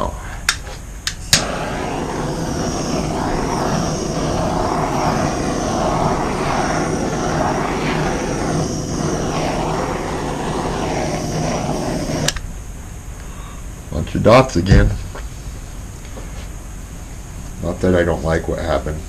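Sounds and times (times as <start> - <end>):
heat gun fan whirring: 0.0 - 18.8.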